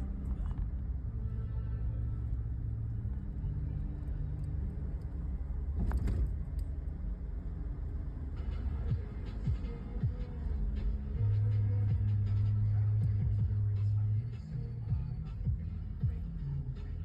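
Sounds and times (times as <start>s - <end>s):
motor vehicle rumbling: 0.0s - 17.0s.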